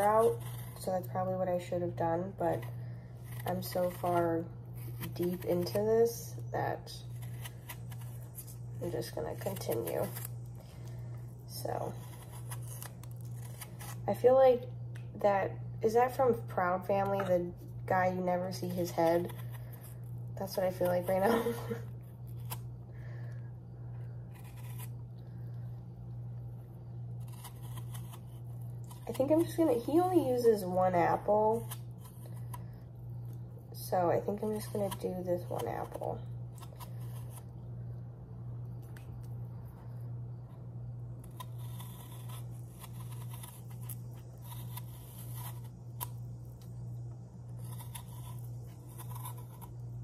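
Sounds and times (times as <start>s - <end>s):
knife scraping apple peel: 0.0s - 25.7s, 26.8s - 38.0s, 38.8s - 50.0s
steady low hum: 0.0s - 50.0s.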